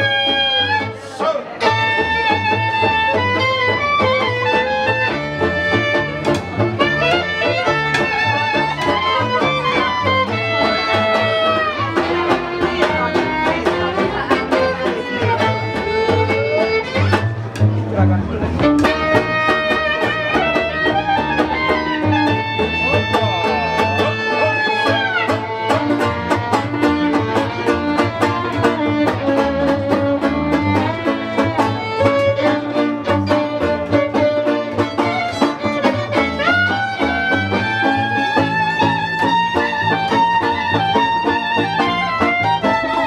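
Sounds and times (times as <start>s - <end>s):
clarinet: 0.0s - 17.6s, 18.5s - 43.0s
banjo: 0.0s - 43.0s
double bass: 0.0s - 43.0s
fiddle: 0.0s - 43.0s.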